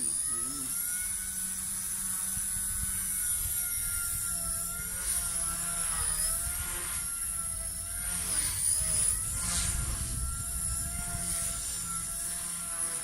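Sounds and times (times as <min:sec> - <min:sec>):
toy helicopter rotor whining: 0:00.0 - 0:13.0.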